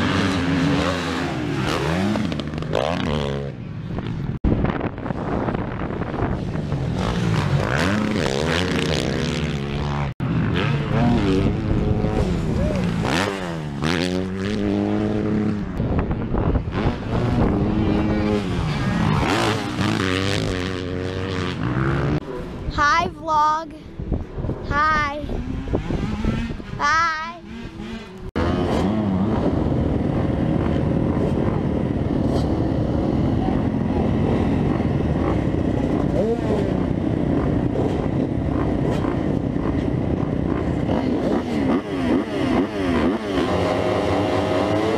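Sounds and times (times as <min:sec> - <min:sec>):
dirt bike engine revving: 0:00.0 - 0:04.3, 0:05.2 - 0:22.3, 0:25.2 - 0:44.9
wind rushing over microphone: 0:00.0 - 0:42.4.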